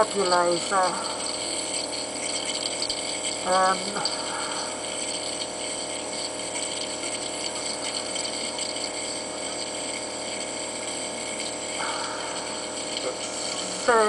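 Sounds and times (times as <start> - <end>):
nebulizer compressor humming: 0.0 - 14.0.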